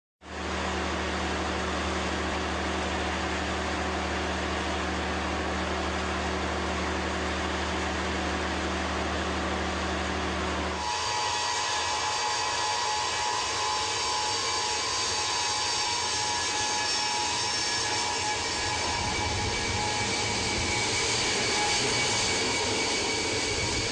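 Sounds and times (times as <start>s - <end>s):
high steady engine whine: 0.2s - 23.9s
jet aircraft engine: 0.2s - 23.9s.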